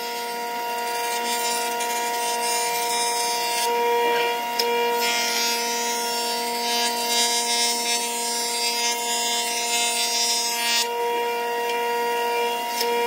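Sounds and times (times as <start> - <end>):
jointer motor hum: 0.0 - 13.0
wood planing cutting noise: 0.0 - 13.0.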